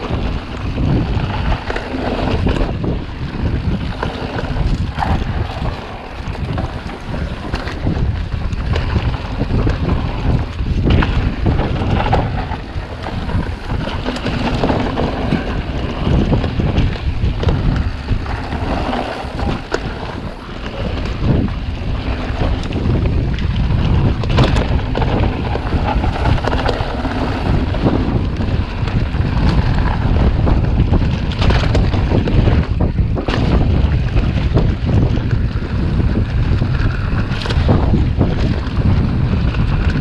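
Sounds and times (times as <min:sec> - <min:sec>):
bike knocks and rattles: 0:00.0 - 0:40.0
bike tyres rumbling on dirt: 0:00.0 - 0:40.0
wind rushing over microphone: 0:00.0 - 0:40.0.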